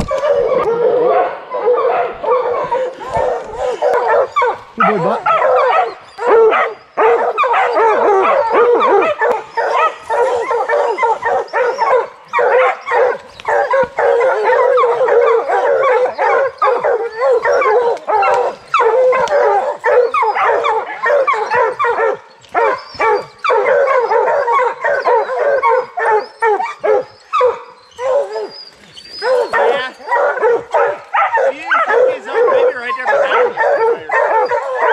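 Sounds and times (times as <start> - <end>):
hounds barking and baying: 0.0 - 34.9.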